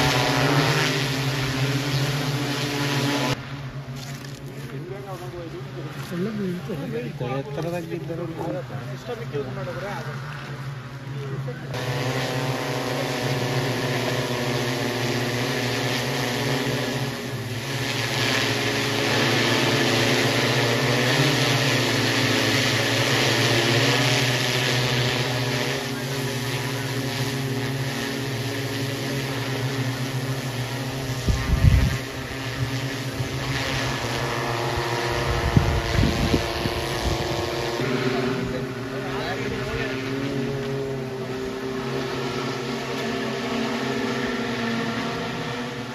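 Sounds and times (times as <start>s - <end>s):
drone propellers humming: 0.0s - 45.9s.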